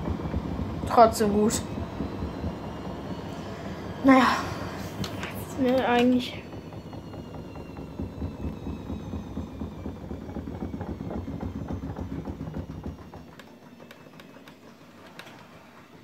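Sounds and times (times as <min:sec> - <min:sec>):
motor whine: 0:00.0 - 0:16.0
washing machine drum rumble: 0:00.0 - 0:16.0.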